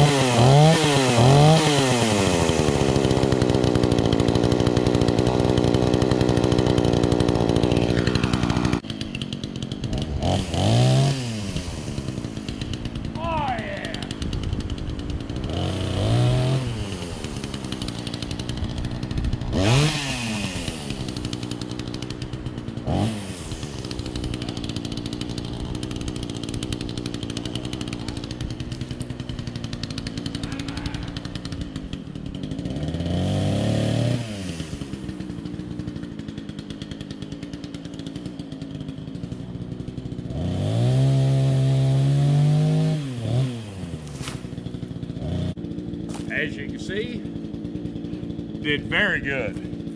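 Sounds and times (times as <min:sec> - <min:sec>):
chainsaw idling and revving: 0:00.0 - 0:49.9.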